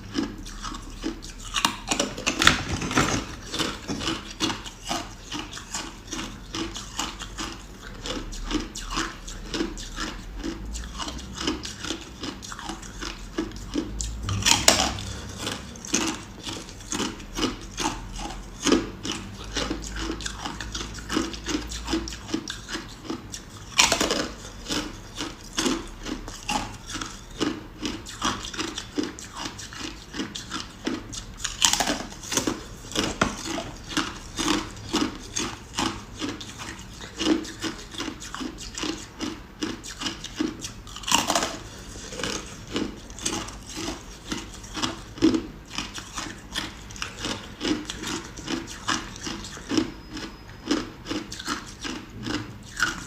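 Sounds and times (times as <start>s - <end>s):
ice being chewed: 0.0s - 53.0s.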